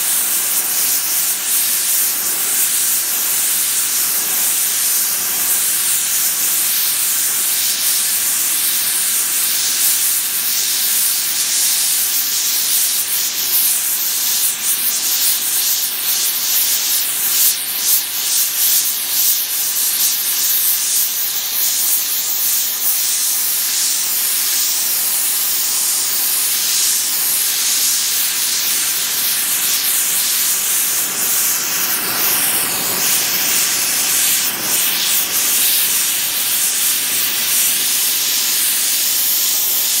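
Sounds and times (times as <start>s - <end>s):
gas torch hissing: 0.0s - 40.0s.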